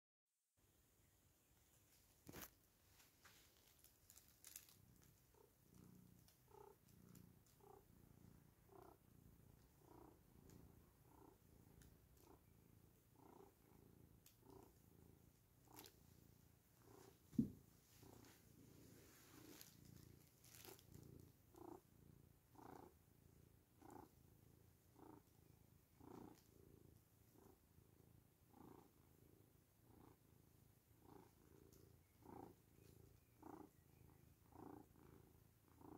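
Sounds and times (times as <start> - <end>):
cat purring: 0.6 - 35.9.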